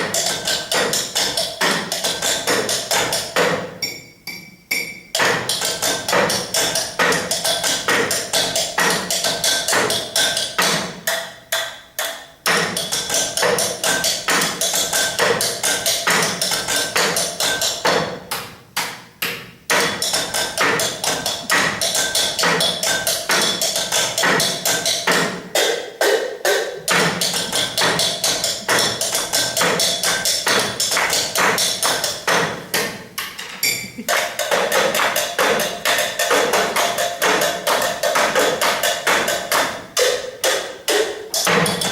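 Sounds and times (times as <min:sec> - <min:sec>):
percussion on glasses and cutlery: 0:00.0 - 0:18.0, 0:19.7 - 0:25.3, 0:26.9 - 0:41.9.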